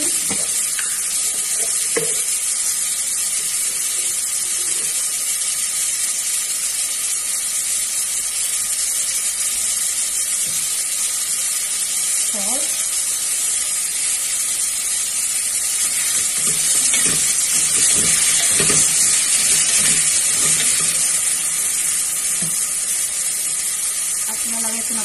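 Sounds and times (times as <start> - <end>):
food sizzling in a pot: 0.0 - 25.0.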